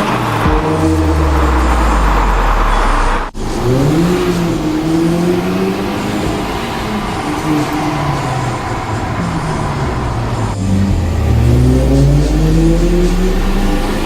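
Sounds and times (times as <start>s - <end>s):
car engine and exhaust drone: 0.0s - 14.0s.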